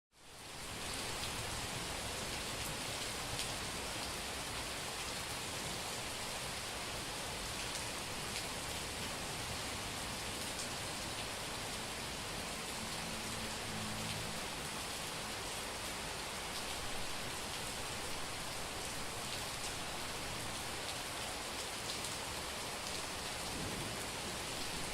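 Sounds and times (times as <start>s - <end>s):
heavy rain on a street: 0.1s - 24.9s.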